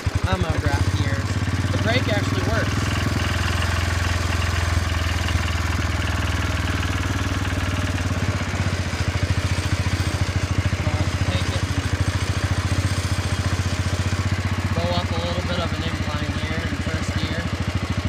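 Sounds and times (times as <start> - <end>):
garden tractor engine running: 0.0 - 18.0.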